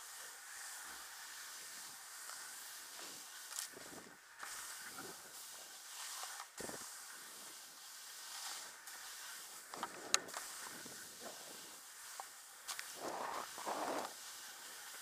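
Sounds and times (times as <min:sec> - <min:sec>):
skis hissing through snow: 0:00.0 - 0:15.0.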